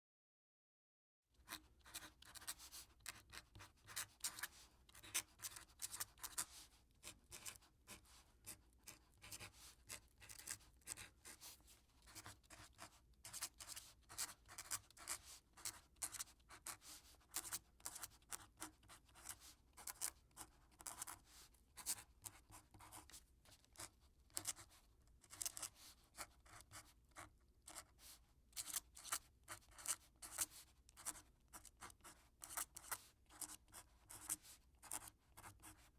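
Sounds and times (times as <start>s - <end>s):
quill pen scratching paper: 1.4s - 35.9s.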